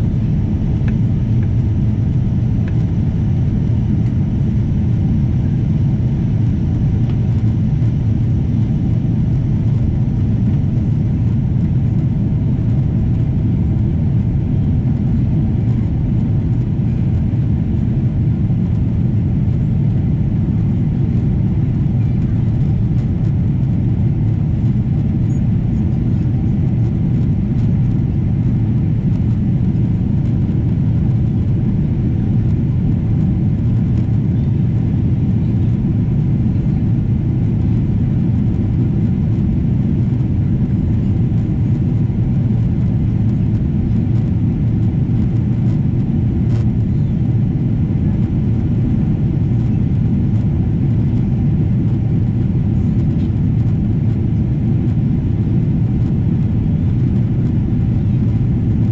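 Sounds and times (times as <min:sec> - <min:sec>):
jet engine cabin rumble: 0:00.0 - 0:58.9.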